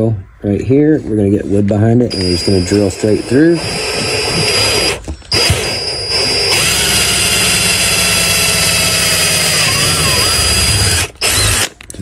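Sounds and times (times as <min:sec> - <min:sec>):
power drill drilling through metal: 0:02.1 - 0:11.8.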